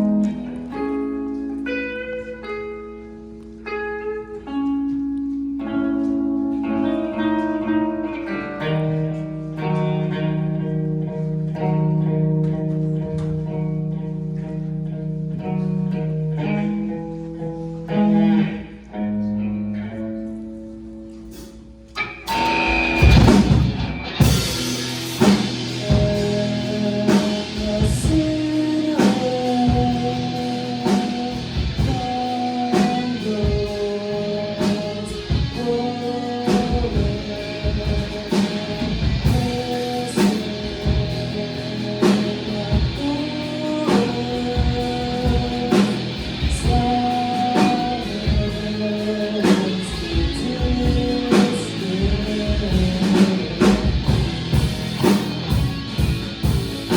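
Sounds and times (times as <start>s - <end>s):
ringing electric guitar melody: 0.0s - 56.9s
rock band playing live: 0.0s - 56.9s.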